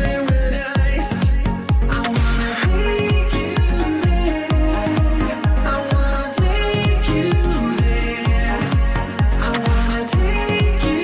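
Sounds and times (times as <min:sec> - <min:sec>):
electronic kick drum: 0:00.0 - 0:11.0
held synth notes: 0:00.0 - 0:11.0.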